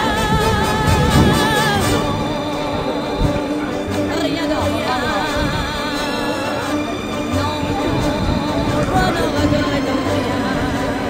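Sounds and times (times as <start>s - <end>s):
background music with singing: 0.0s - 11.0s.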